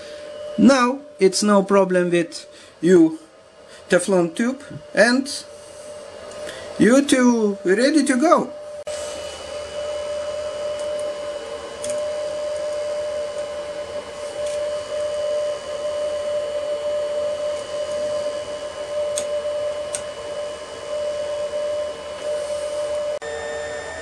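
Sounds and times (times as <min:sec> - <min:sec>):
printer fan noise: 0:00.0 - 0:24.0
steady whine: 0:00.0 - 0:24.0.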